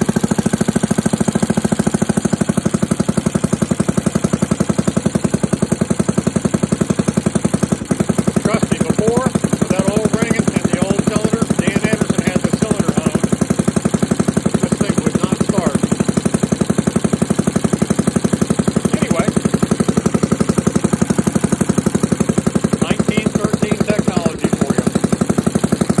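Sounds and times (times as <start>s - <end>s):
two-stroke boat motor running: 0.0s - 26.0s.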